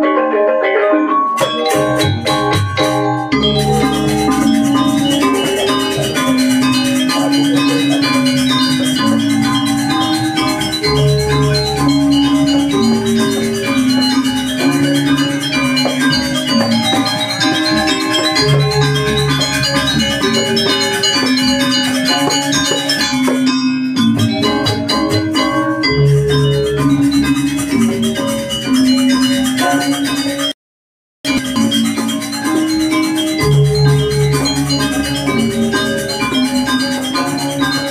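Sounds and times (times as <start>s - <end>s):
metallophones ringing melody: 0.0s - 30.6s, 31.3s - 37.9s.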